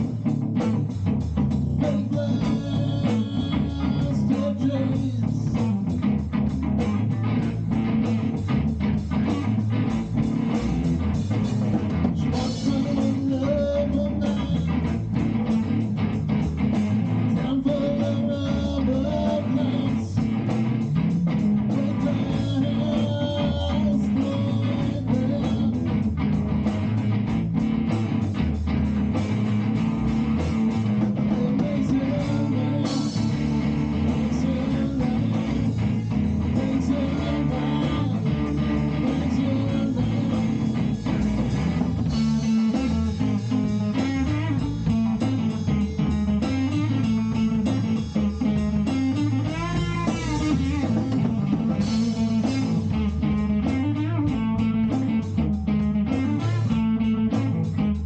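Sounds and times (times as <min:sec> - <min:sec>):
guitar-led band instrumental: 0:00.0 - 0:58.0.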